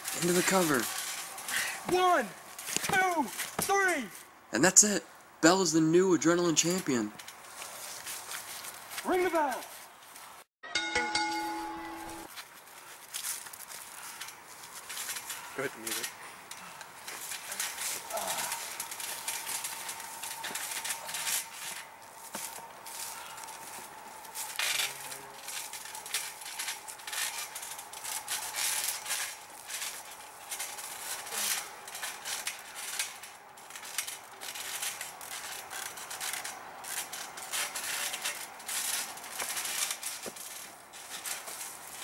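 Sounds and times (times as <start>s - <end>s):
crackling and rustling: 0.0s - 4.4s, 6.6s - 10.5s, 12.1s - 42.0s.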